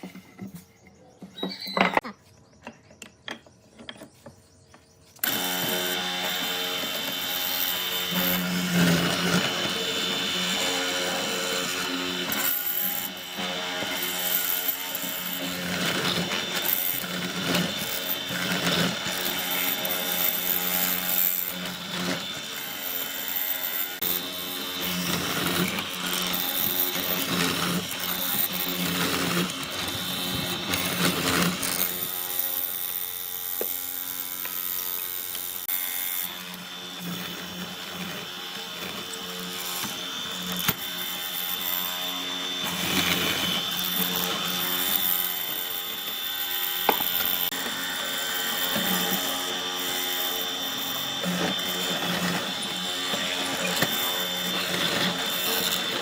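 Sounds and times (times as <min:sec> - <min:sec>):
power tool motor whine: 0:05.1 - 0:56.0.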